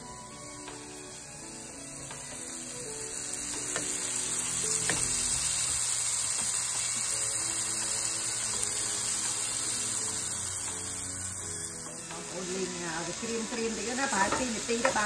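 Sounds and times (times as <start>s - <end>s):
shrimp sizzling in hot oil: 0.0s - 15.0s.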